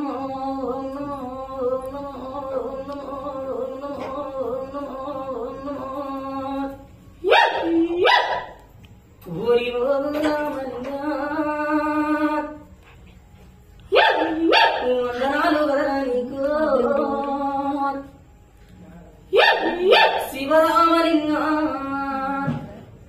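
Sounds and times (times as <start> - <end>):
person chanting a devotional song: 0.0 - 23.0.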